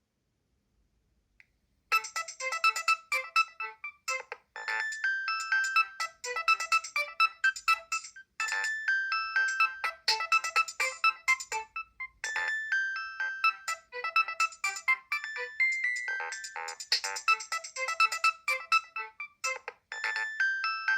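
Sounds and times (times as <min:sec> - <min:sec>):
polyphonic ringtone melody: 0:01.9 - 0:20.9.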